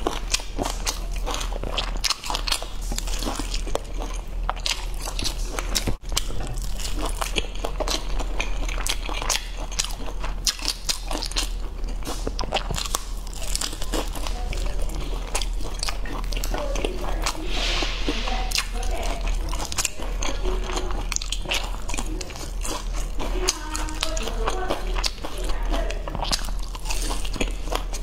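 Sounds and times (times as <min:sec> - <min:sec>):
crunchy food chewing: 0:00.0 - 0:28.0.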